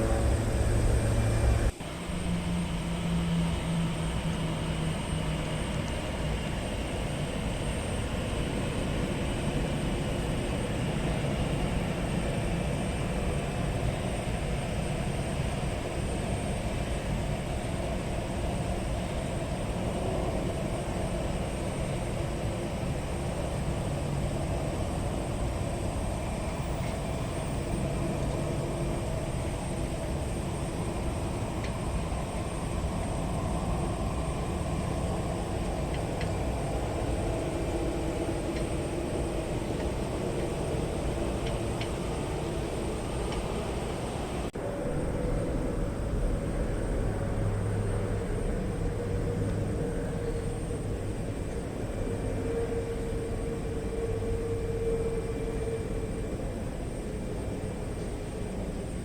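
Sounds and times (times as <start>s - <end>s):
faint thin whine: 0.0s - 59.0s
jet engines rumbling: 0.0s - 59.0s.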